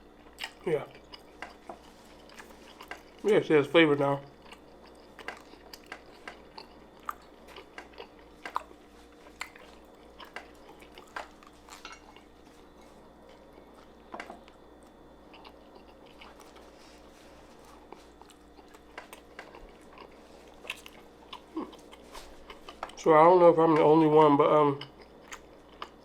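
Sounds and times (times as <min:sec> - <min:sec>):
person chewing food: 0:00.1 - 0:03.4, 0:04.2 - 0:23.0, 0:24.8 - 0:26.0.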